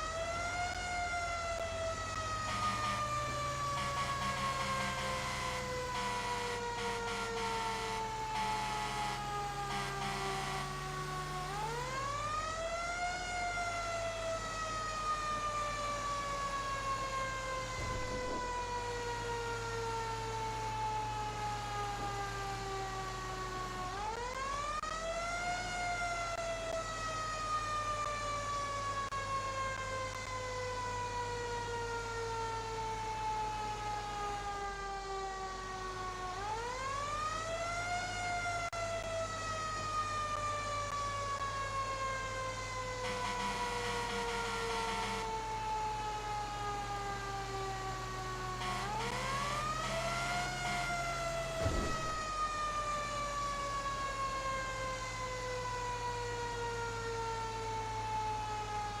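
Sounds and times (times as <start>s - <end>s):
siren wailing: 0.0s - 59.0s.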